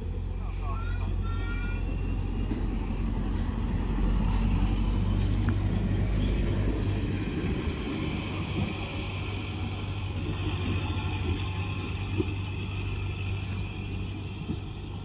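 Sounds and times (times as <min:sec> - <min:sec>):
tram engine hum: 0:00.0 - 0:15.0
wheels rumbling on track: 0:00.0 - 0:15.0.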